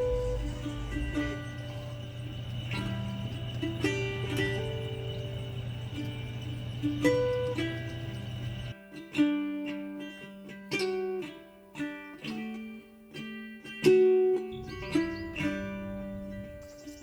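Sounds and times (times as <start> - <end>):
plucked string instrument notes: 0.0 - 17.0.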